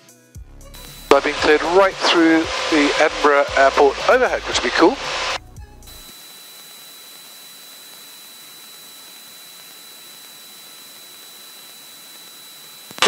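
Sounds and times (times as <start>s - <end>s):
high steady whine: 0.7s - 13.0s
electronic hiss: 0.8s - 13.0s.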